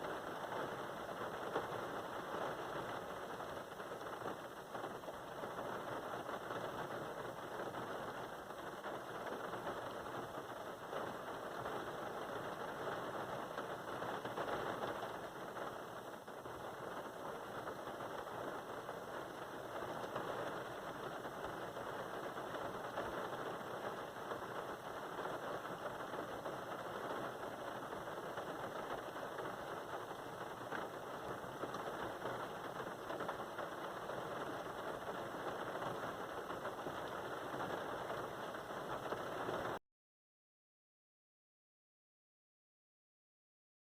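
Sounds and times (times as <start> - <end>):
rain pattering: 0.0 - 39.8.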